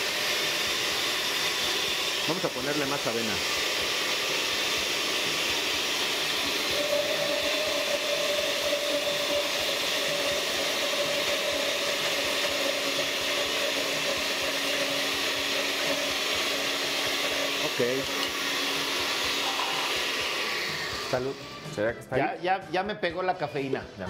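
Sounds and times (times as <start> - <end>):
blender motor whirring: 0.0 - 21.9.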